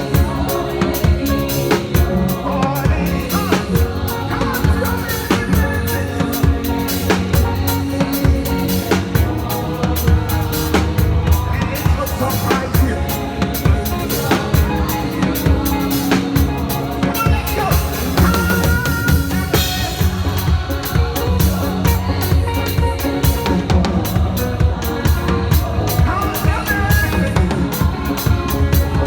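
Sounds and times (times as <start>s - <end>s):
drum kit beat: 0.0s - 29.0s
live praise band music: 0.0s - 29.0s
sustained bass: 0.0s - 29.0s.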